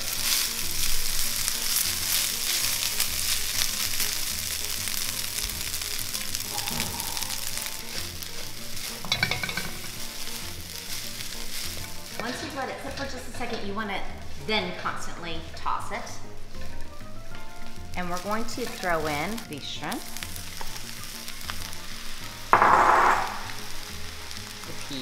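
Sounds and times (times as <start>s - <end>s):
spatulas scraping a wok: 0.0s - 22.6s
rice sizzling in hot oil: 0.0s - 25.0s.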